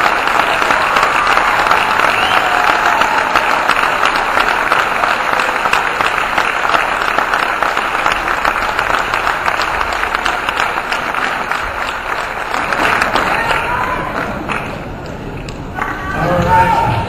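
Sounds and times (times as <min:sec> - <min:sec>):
audience applauding: 0:00.0 - 0:16.7.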